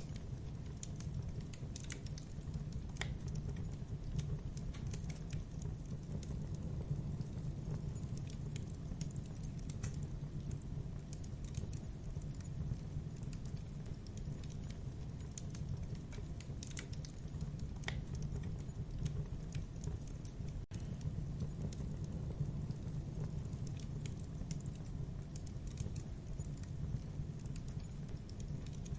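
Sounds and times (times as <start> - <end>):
campfire crackling: 0.0 - 28.9.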